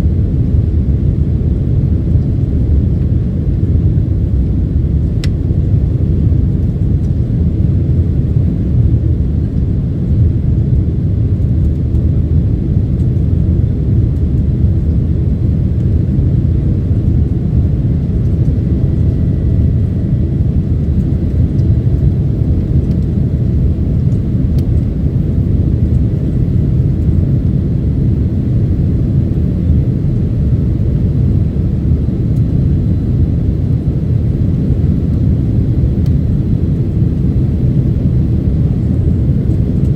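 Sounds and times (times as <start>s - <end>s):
airliner engine rumble: 0.0s - 39.9s.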